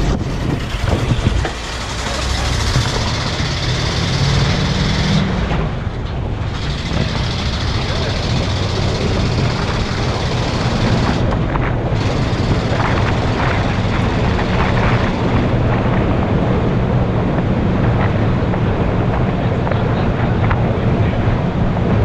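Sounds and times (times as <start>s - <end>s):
road noise: 0.0s - 22.0s
truck engine running: 0.0s - 22.0s
wind noise: 0.0s - 22.0s.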